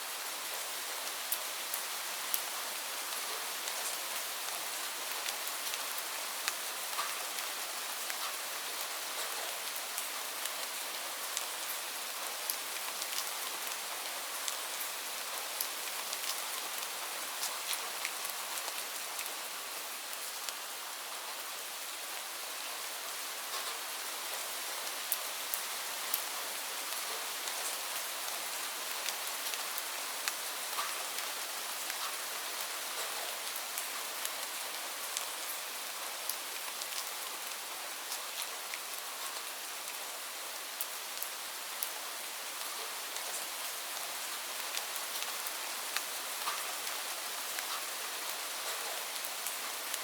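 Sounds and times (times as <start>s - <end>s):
raindrops ticking on a surface: 0.6s - 22.3s, 23.4s - 50.0s.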